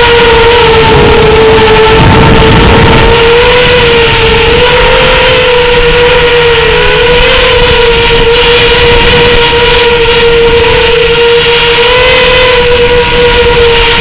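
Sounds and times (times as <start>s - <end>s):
drone motors and propellers whining: 0.0s - 14.0s.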